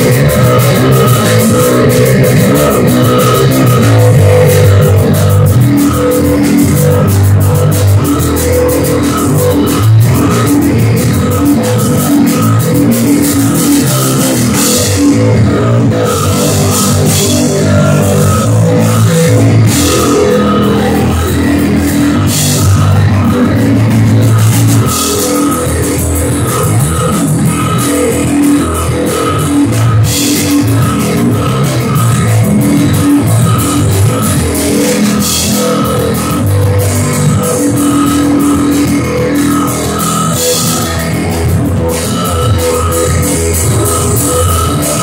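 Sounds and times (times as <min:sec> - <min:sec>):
bass guitar: 0:00.0 - 0:45.0
drum kit: 0:00.0 - 0:45.0
electric guitar: 0:00.0 - 0:45.0.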